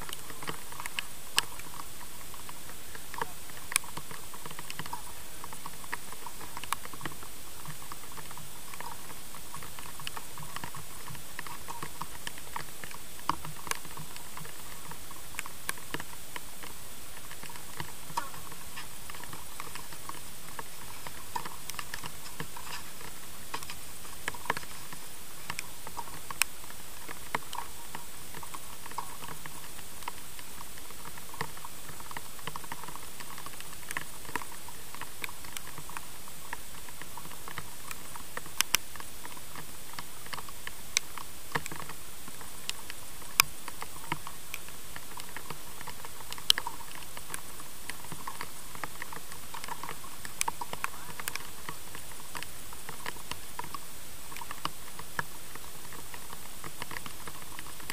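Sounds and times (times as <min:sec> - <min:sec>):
steady hiss: 0:00.0 - 0:57.9.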